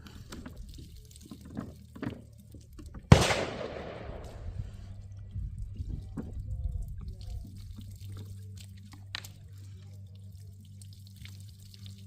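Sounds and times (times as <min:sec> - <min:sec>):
water dripping and trickling: 0:00.0 - 0:03.1, 0:04.6 - 0:12.0.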